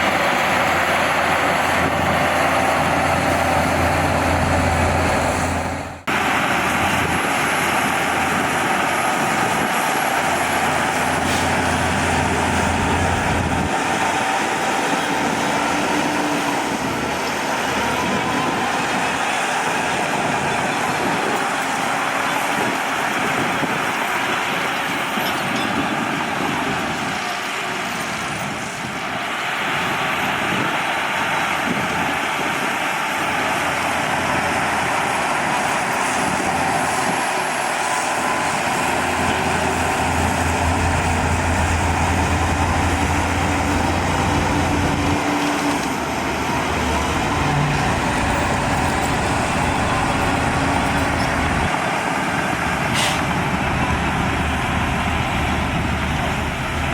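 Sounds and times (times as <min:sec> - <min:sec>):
heavy diesel machinery engine drone: 0:00.0 - 0:56.9.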